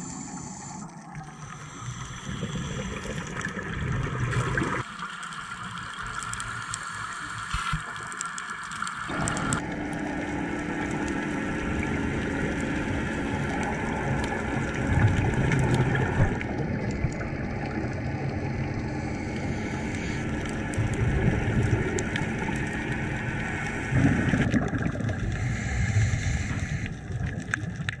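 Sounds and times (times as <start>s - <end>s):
muffled underwater gurgling: 0.0s - 4.8s, 5.6s - 28.0s.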